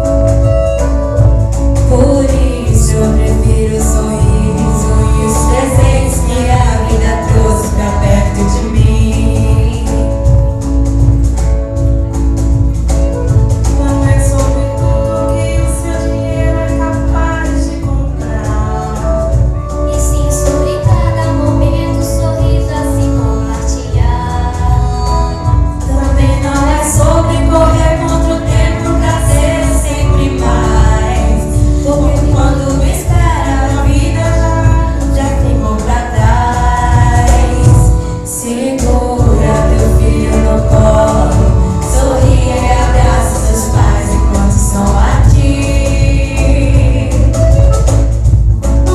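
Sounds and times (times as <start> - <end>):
instrumental accompaniment with bass: 0.0 - 48.9
women singing: 1.8 - 10.5, 13.7 - 48.0.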